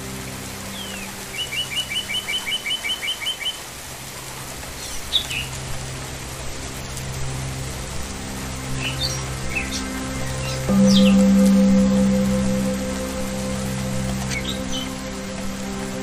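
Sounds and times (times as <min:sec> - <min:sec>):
low steady drone: 0:00.0 - 0:02.2, 0:03.9 - 0:16.0.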